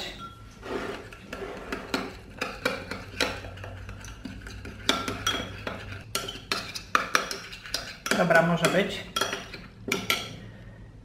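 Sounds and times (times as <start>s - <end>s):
spoon scraping glass bowl: 0.0s - 10.2s.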